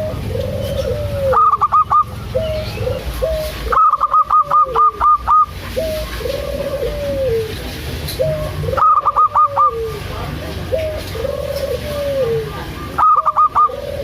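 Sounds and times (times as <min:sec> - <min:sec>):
dove drawn-out coos: 0:00.0 - 0:14.0.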